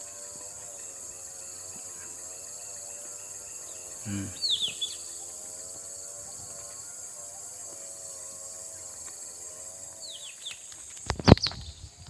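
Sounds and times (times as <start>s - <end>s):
faint wavering hum: 0.0s - 10.7s
high-pitched insect chorus: 0.0s - 12.0s.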